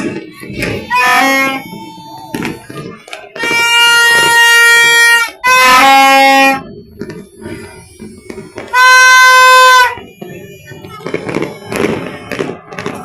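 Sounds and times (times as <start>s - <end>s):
loud horn blasts: 0.0s - 6.8s, 8.3s - 13.0s.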